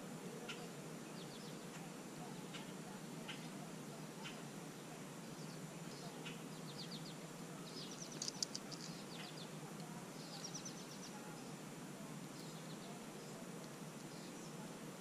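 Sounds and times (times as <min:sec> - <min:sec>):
faint outdoor background noise: 0:00.0 - 0:15.0
small songbirds chirping: 0:00.0 - 0:15.0.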